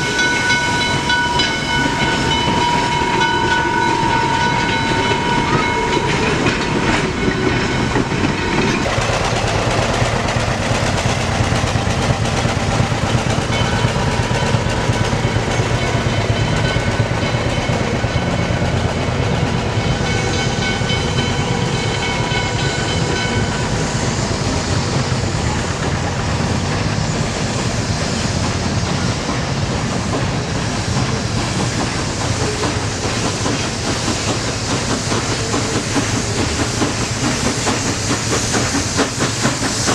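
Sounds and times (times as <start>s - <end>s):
distant train rumble: 0.0s - 39.9s
train wheels clattering: 0.0s - 39.9s.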